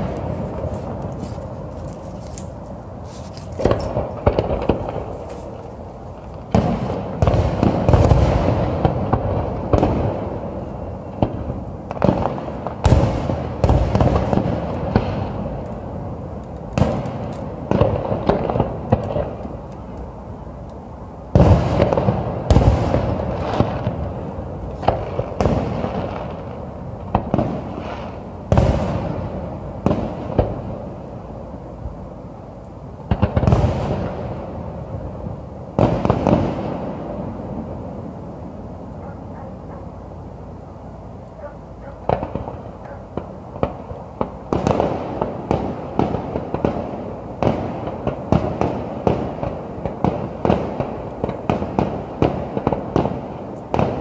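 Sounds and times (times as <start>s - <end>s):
fireworks booming: 0.0s - 20.6s, 21.2s - 32.3s, 33.0s - 40.4s, 41.4s - 54.0s.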